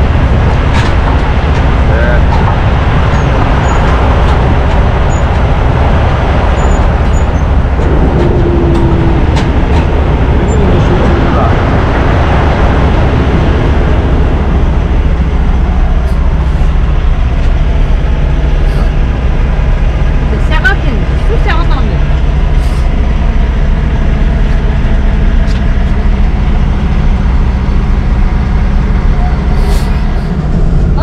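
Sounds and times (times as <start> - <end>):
ferry engines rumbling: 0.0 - 31.0.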